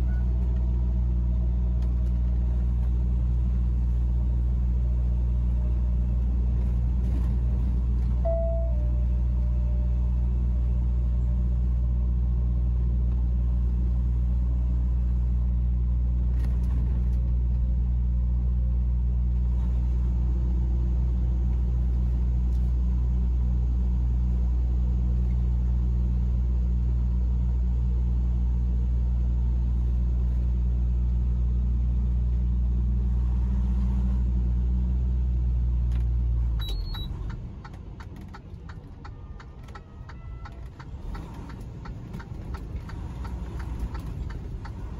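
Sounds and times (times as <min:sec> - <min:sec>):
truck engine droning: 0:00.0 - 0:44.9.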